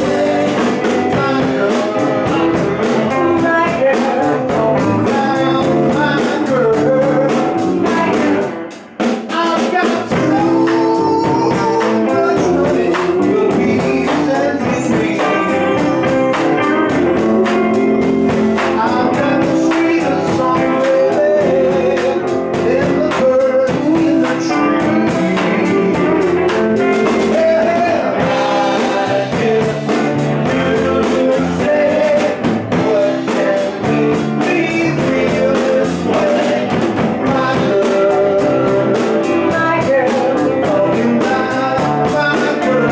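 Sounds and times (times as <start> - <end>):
live blues-rock band: 0.0 - 42.9.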